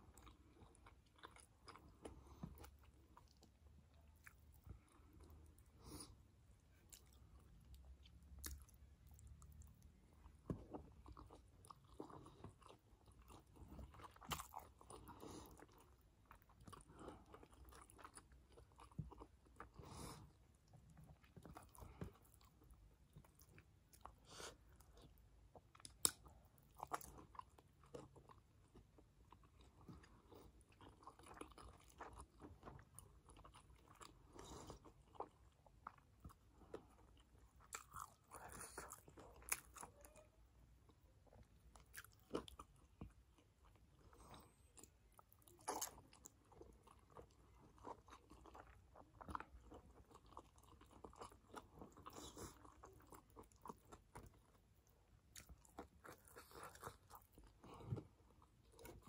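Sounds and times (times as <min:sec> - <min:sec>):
close-up chewing: 0:00.0 - 0:59.0.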